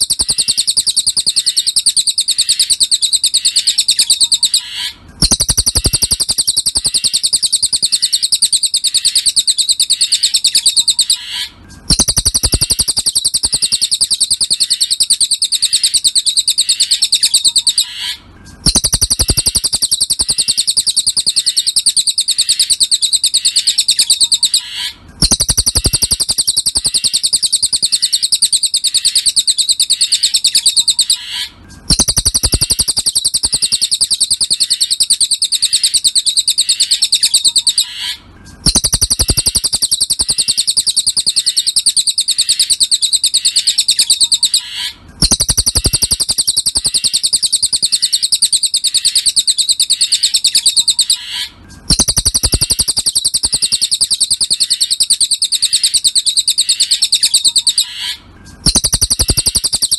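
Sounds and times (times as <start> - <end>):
bird chattering trill: 0.0 - 59.9.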